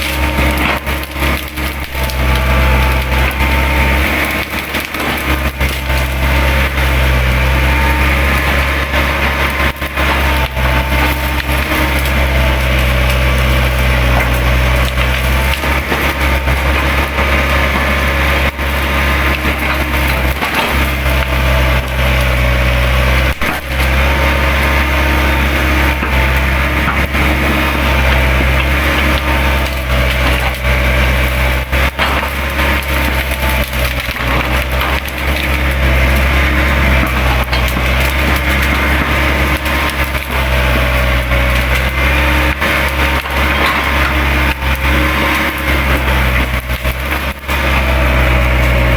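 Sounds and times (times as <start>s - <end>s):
branches cracking and snapping: 0.0s - 48.9s
excavator diesel engine running: 0.0s - 48.9s.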